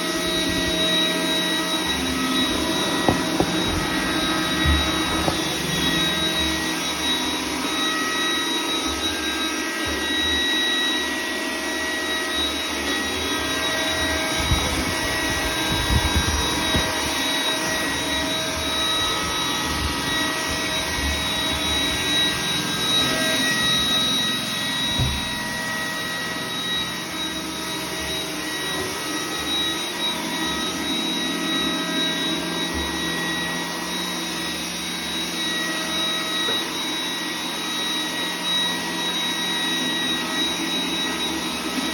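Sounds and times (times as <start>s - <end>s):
robot vacuum whining: 0.0s - 41.9s.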